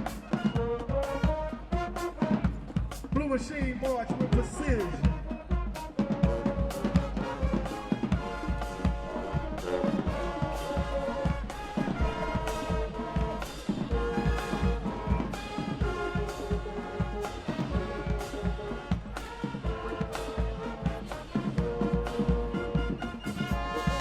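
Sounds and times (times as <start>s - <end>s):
brass chords: 0.0s - 24.0s
marching drum beat: 0.0s - 24.0s.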